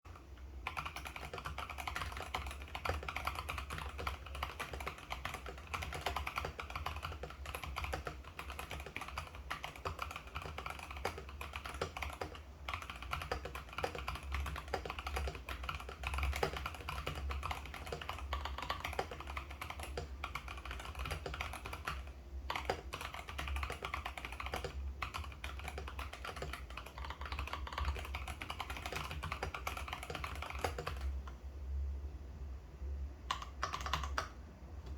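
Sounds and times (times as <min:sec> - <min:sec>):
mechanical keyboard typing: 0:00.1 - 0:31.4, 0:33.3 - 0:34.9
low steady hum: 0:00.1 - 0:34.9.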